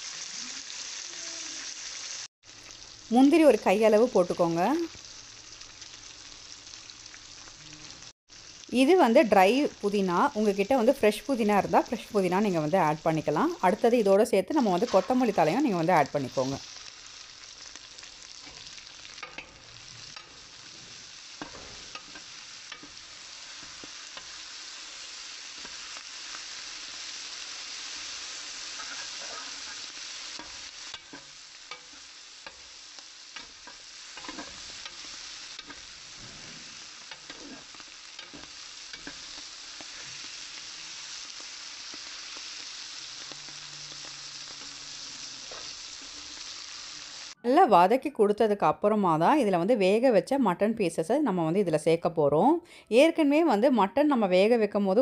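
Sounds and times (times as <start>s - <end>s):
food sizzling in oil: 0.0s - 48.4s.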